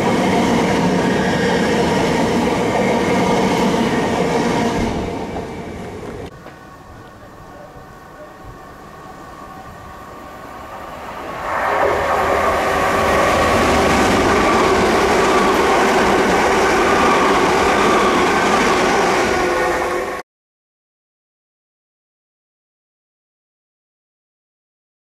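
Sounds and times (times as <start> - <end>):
passenger train passing: 0.0 - 20.2.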